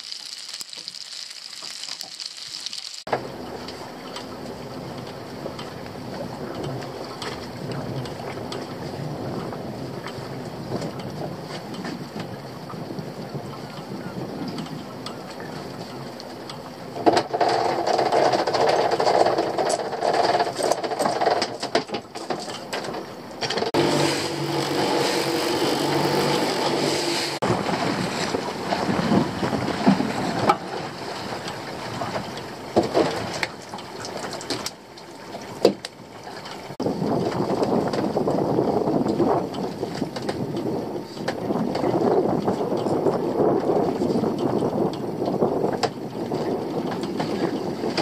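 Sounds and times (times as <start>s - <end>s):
propeller churning water: 0.0s - 48.0s
water sloshing: 0.0s - 48.0s
boat engine running: 3.1s - 48.0s.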